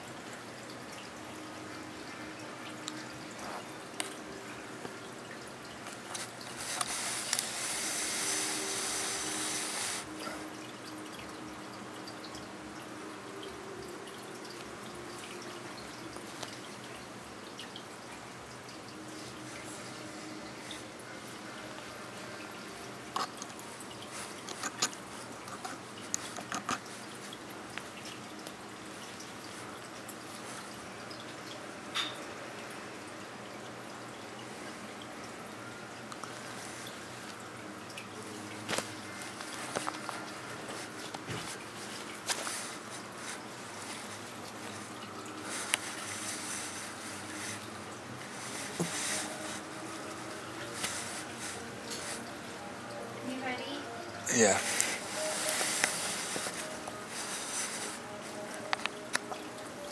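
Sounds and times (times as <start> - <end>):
aquarium filter trickling: 0.0 - 59.9.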